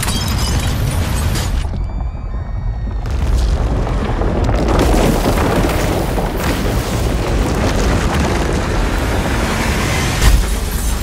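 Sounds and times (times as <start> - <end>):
deep earthquake rumble: 0.2 - 11.0
booms: 0.3 - 11.0.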